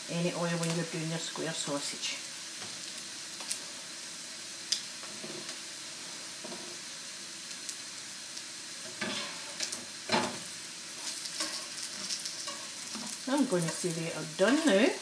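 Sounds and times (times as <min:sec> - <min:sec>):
sausage sizzling in a pan: 0:00.0 - 0:15.0.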